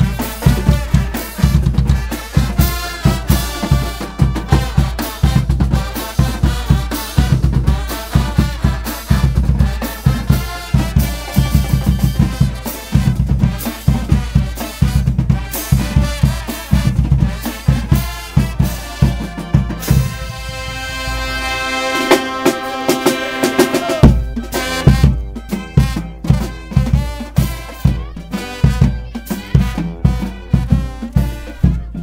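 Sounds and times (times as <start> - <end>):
bass drum and snare beat: 0.0 - 32.0
brass band playing: 0.0 - 32.0.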